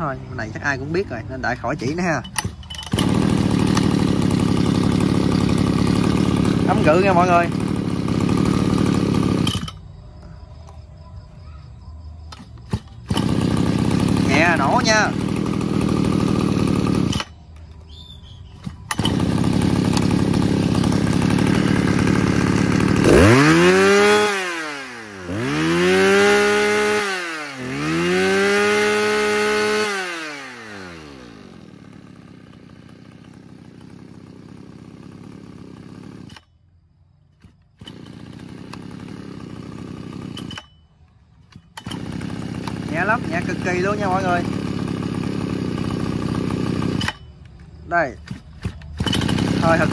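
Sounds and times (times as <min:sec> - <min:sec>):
brush-cutter engine revving and idling: 0:00.0 - 0:09.8, 0:12.3 - 0:17.4, 0:18.6 - 0:36.5, 0:37.3 - 0:40.8, 0:41.4 - 0:49.9.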